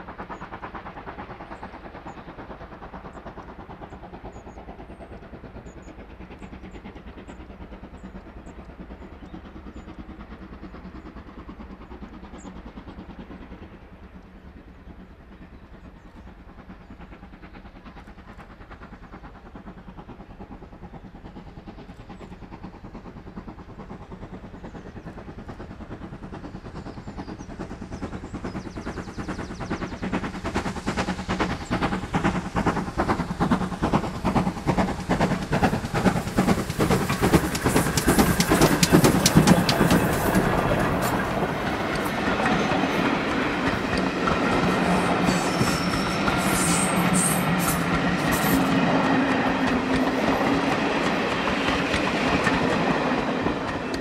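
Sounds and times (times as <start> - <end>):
steam train chugging: 0.0 - 54.0.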